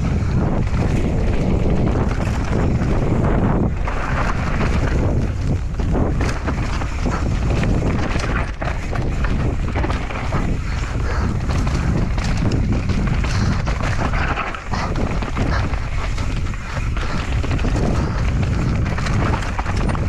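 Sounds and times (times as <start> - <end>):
bike knocks and rattles: 0.0 - 20.0
bike tyres on dirt: 0.0 - 20.0
wind rumble on microphone: 0.0 - 20.0.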